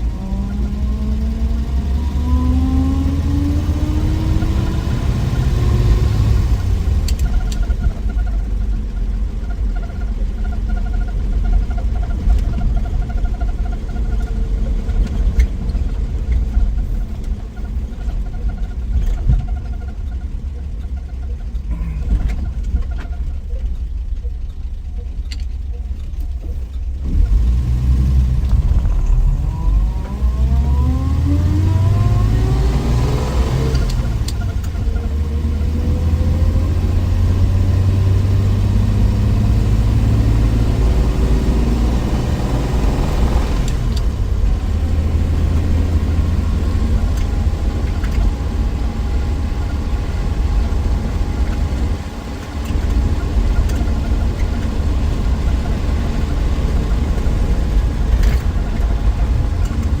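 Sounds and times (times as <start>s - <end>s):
car engine accelerating: 0.0s - 60.0s.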